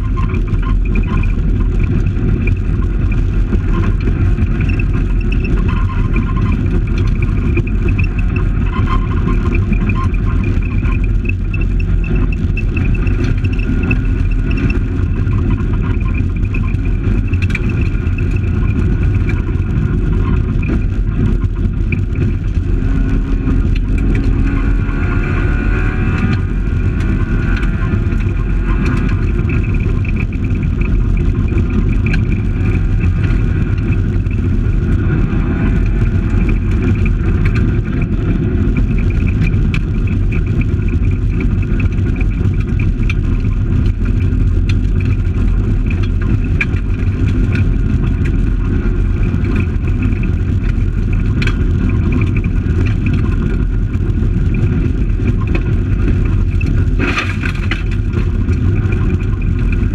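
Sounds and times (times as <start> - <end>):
car engine revving: 0.0 - 59.9
road rumble: 0.0 - 59.9.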